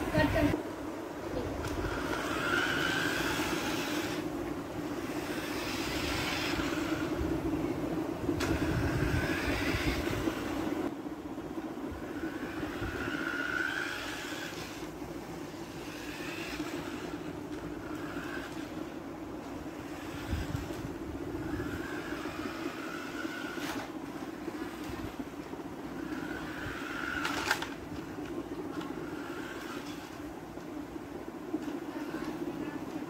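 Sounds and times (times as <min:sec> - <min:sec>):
toy car electric motor whirring: 0:01.6 - 0:10.8, 0:12.0 - 0:30.3.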